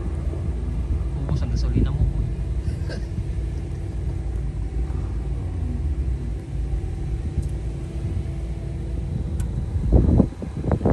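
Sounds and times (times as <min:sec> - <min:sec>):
car engine running: 0:00.0 - 0:10.9
wind buffeting microphone: 0:00.0 - 0:10.9.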